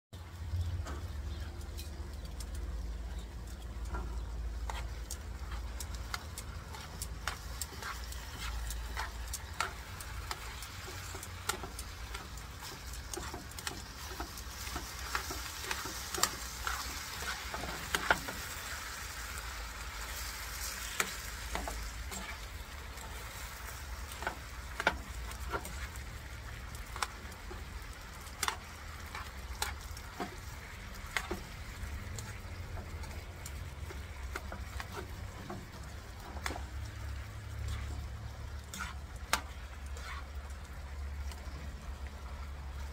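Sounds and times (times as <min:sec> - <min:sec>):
meat sizzling in a frying pan: 0:01.0 - 0:42.9
metal tongs scraping a pan: 0:03.2 - 0:40.6.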